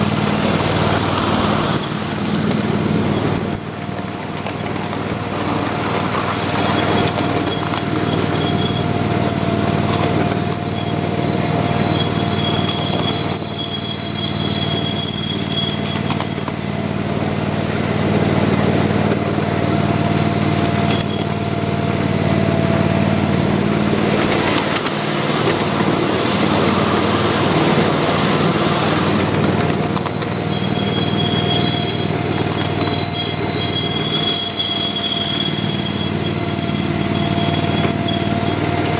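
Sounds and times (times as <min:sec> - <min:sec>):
high wheel squeal: 0:00.0 - 0:38.9
miniature train motor drone: 0:00.0 - 0:38.9
train cars rumbling on rails: 0:00.0 - 0:38.9.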